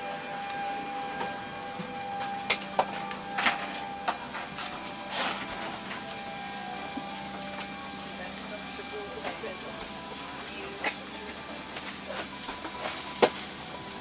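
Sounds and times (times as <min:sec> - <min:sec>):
airplane cabin hum: 0:00.0 - 0:14.0.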